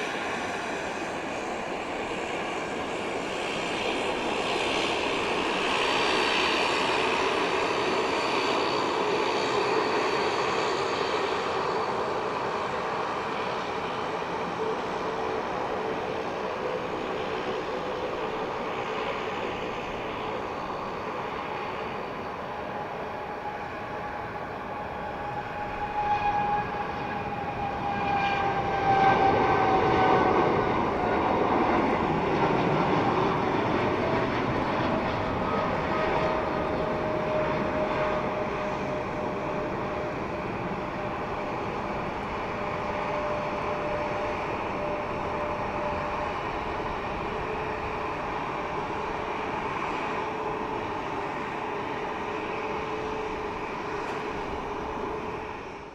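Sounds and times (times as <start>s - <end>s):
jet airliner taking off: 0.0s - 55.9s.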